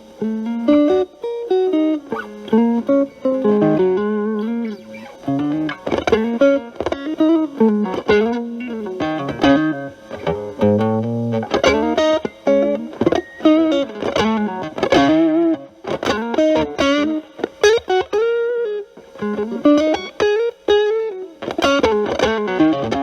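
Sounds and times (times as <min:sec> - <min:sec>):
distorted electric guitar lead: 0:00.0 - 0:23.0.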